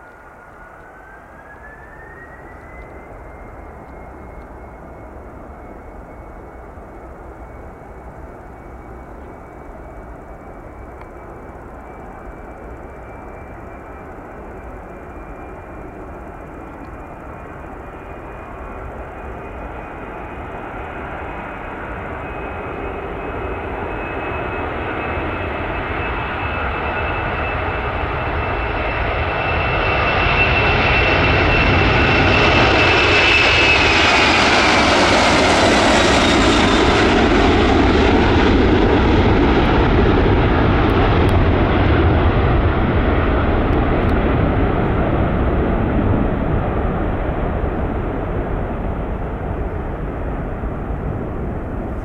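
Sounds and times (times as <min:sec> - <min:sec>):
high engine whine: 0:00.0 - 0:52.0
jet engines rumbling: 0:00.0 - 0:52.0.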